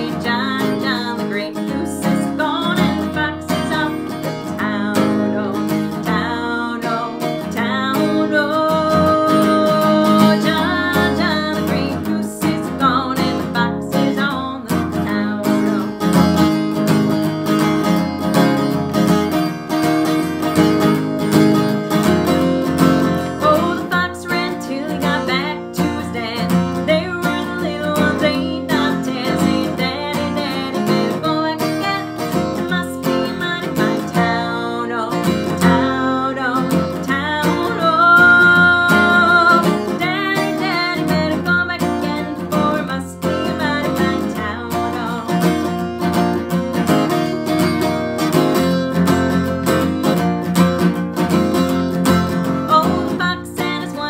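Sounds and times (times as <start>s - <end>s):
woman singing: 0.0s - 17.1s, 20.8s - 50.6s, 51.2s - 54.0s
acoustic guitar strumming: 0.0s - 54.0s.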